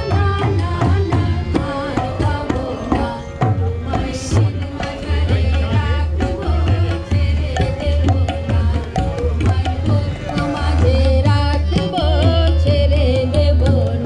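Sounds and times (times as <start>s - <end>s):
dhol drumming: 0.0s - 14.0s.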